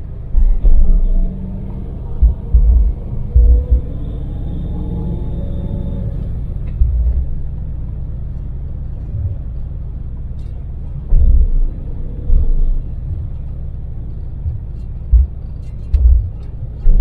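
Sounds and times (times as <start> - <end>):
heavy low thumps: 0.0 - 8.1, 10.8 - 17.0
van engine and road noise: 0.0 - 17.0.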